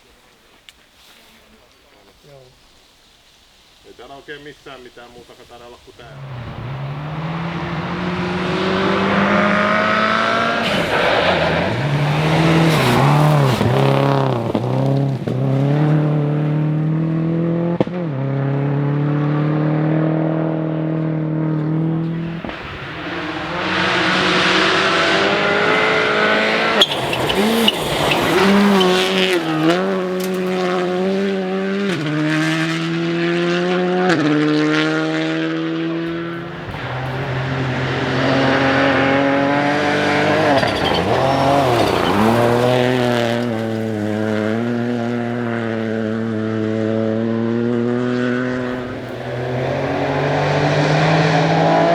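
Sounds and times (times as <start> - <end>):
rally car engine revving: 4.2 - 51.9.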